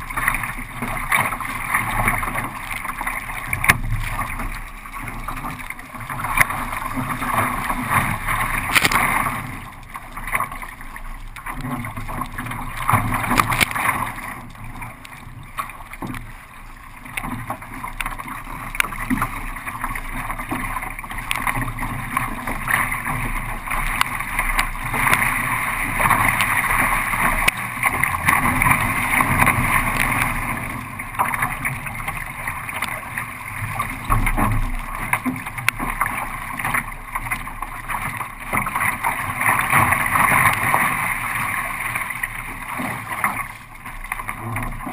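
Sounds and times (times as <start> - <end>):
water rushing and splashing: 0.0 - 44.9.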